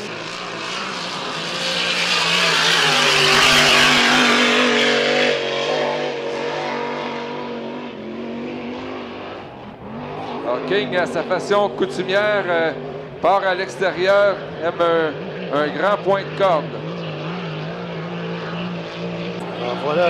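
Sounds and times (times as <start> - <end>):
boat engine running hard: 0.0 - 20.0.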